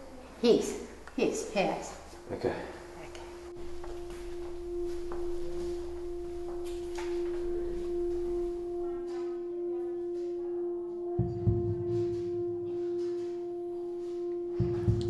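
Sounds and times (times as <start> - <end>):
sustained humming drone: 0.0 - 15.0.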